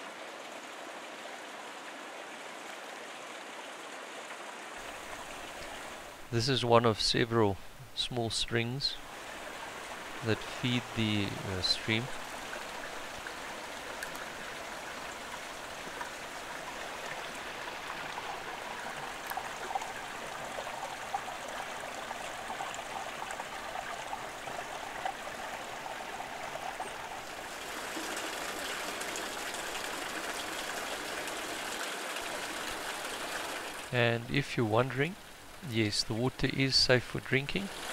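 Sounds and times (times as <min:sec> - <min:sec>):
stream trickling over rocks: 0:00.0 - 0:34.4, 0:35.1 - 0:37.9.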